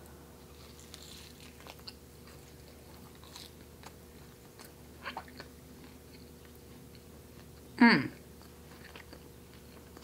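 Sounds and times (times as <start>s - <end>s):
chewing pastry: 0.4s - 10.0s.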